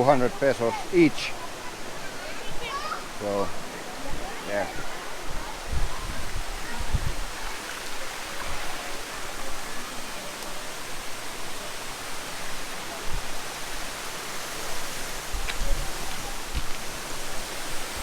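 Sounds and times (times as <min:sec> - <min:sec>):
waterfall and stream rushing: 0:00.0 - 0:18.0.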